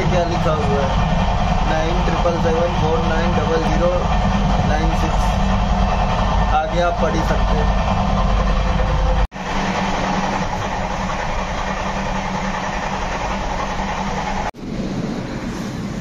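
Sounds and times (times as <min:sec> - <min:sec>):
train rumble and rail noise: 0:00.0 - 0:16.0.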